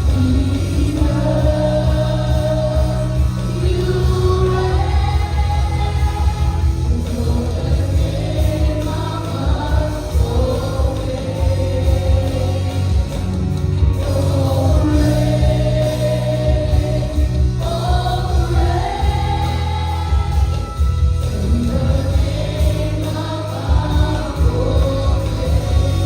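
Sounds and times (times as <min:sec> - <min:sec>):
full band playing: 0:00.0 - 0:26.0
group singing worship song: 0:00.0 - 0:26.0
strong bass: 0:00.0 - 0:26.0.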